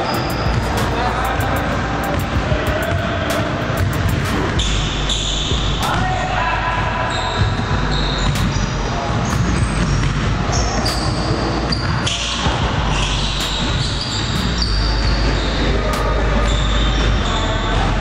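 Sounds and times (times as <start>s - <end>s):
players' voices: 0.0s - 18.0s.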